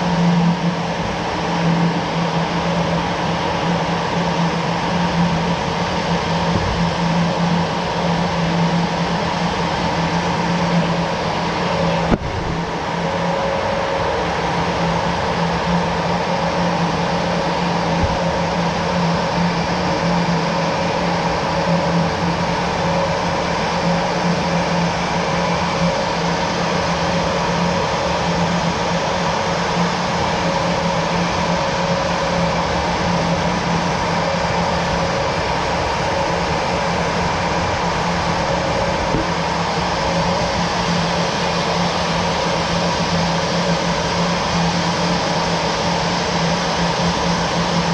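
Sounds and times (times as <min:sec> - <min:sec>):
jet engine running: 0:00.0 - 0:47.9.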